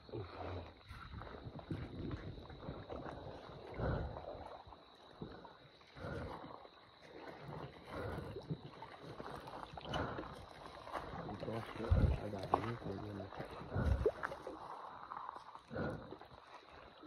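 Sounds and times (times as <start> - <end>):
wading through shallow water: 0.0 - 17.0.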